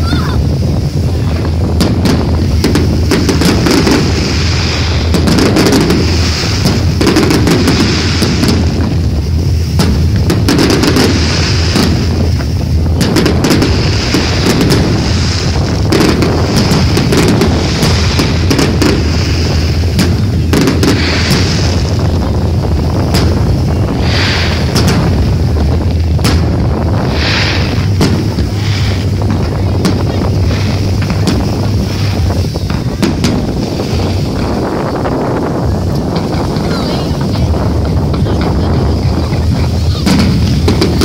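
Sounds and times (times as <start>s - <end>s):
fireworks launching and bursting: 0.0s - 41.0s.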